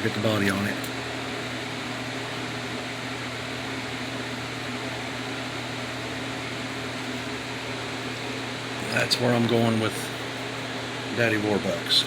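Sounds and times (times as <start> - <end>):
mechanical whir with low hum: 0.0 - 12.0.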